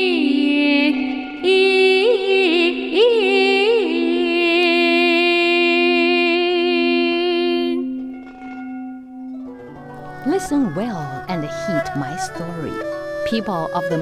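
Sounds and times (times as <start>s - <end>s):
woman singing opera style: 0.0s - 8.0s, 10.2s - 14.0s.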